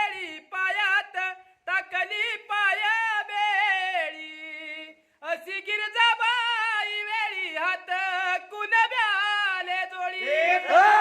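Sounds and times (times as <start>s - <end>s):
person singing with vibrato: 0.0s - 11.0s.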